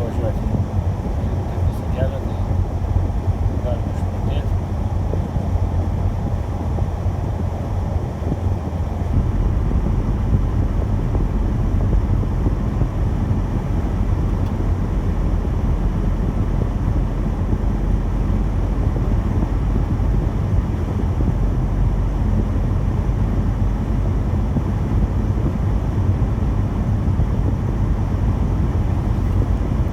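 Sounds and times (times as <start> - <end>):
car engine and road noise: 0.0 - 29.9
wind: 0.0 - 29.9.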